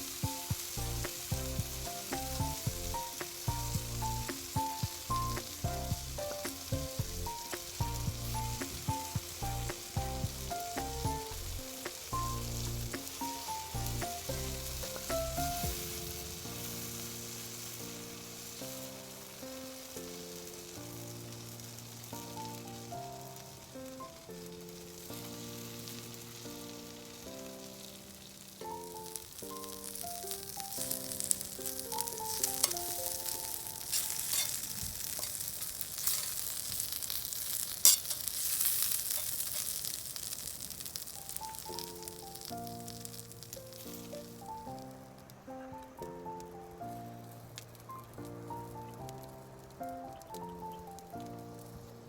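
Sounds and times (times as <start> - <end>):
background music: 0.0 - 34.9, 41.3 - 52.0
meat sizzling over campfire: 0.0 - 52.0.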